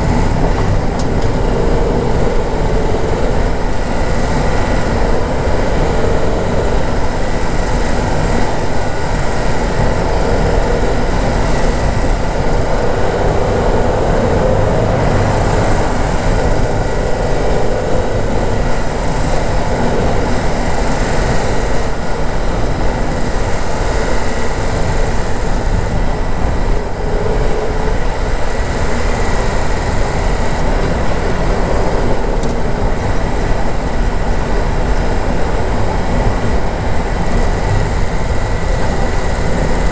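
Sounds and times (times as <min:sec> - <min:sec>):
car engine: 0:00.0 - 0:39.9
tyre noise on rough track: 0:00.0 - 0:39.9.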